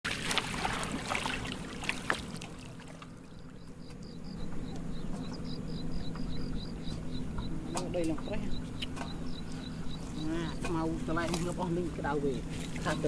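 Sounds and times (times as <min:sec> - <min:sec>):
water splashing and sloshing: 0:00.0 - 0:05.2, 0:06.0 - 0:13.0.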